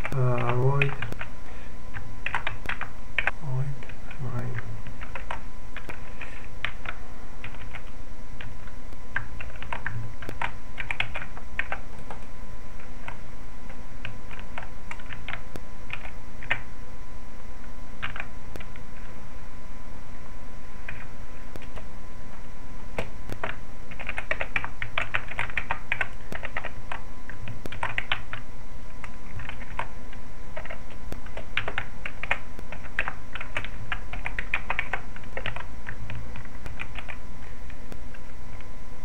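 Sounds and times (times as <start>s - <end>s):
keyboard typing: 0.0s - 1.3s, 1.9s - 16.7s, 18.0s - 19.1s, 20.8s - 21.9s, 23.0s - 28.4s, 29.0s - 38.6s
low background hum: 0.0s - 39.0s.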